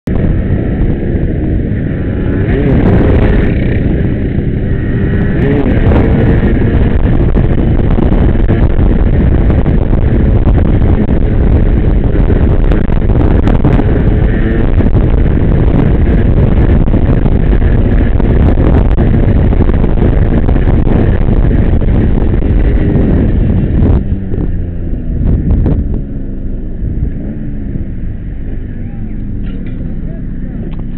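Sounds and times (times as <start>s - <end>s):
motorcycle engines revving high: 0.0s - 30.9s
wind buffeting microphone: 0.0s - 30.9s.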